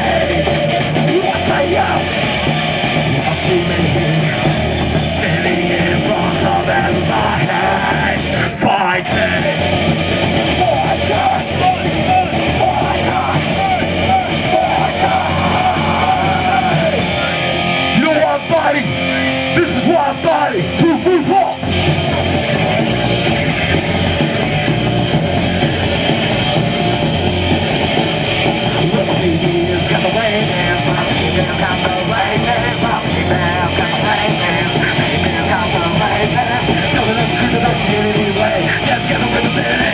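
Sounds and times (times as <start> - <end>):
shouted vocals: 0.0 - 27.0, 27.9 - 39.9
live rock band playing: 0.0 - 39.9.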